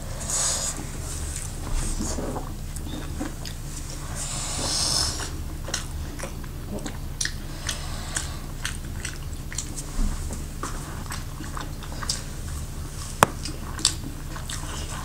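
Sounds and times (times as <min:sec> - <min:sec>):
people chewing food: 0:00.0 - 0:15.0
steady low hum: 0:00.0 - 0:15.0.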